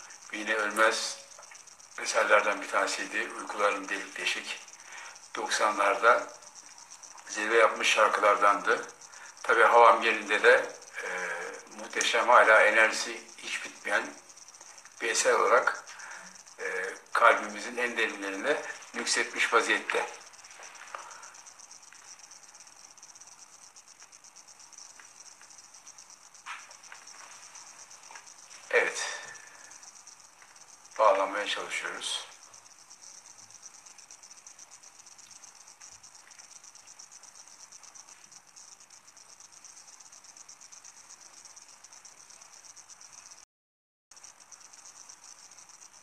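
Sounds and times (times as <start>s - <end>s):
faint ticks: 0.0s - 43.4s, 44.1s - 46.0s
cricket chirping: 0.0s - 43.5s, 44.1s - 46.0s.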